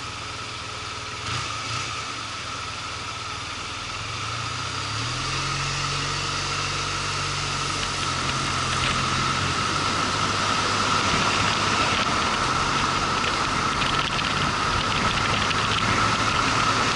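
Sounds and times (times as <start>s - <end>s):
motorcycle engine running: 0.0s - 16.9s
wind and road noise: 0.0s - 16.9s.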